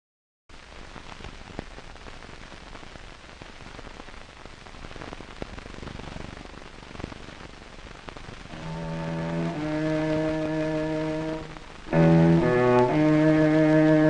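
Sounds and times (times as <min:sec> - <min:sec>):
film soundtrack hiss: 0:00.5 - 0:14.0.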